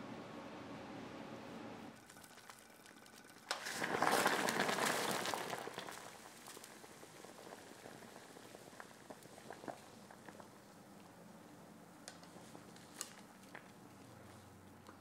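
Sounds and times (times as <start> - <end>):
water boiling hard in a pot: 1.9 - 14.3.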